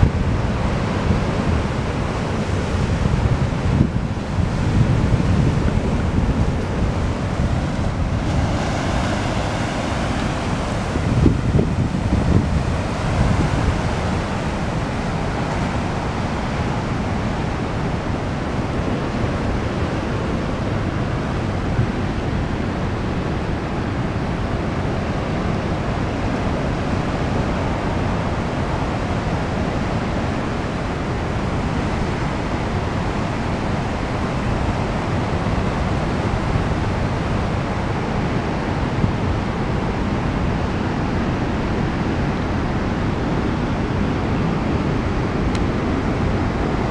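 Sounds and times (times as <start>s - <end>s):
ocean surf breaking on rocks: 0.0s - 46.9s.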